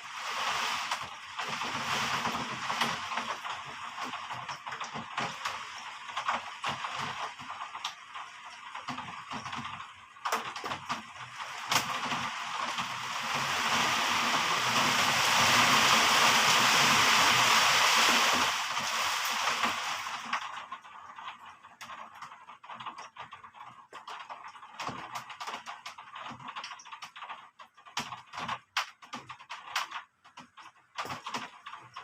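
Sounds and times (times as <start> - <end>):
heavy rain: 0.0 - 28.4.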